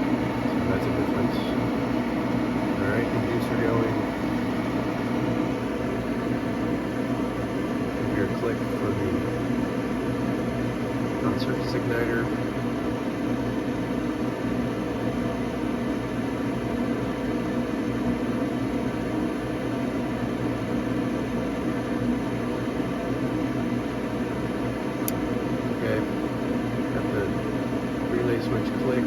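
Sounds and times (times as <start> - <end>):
furnace motor humming and whirring: 0.0 - 29.0.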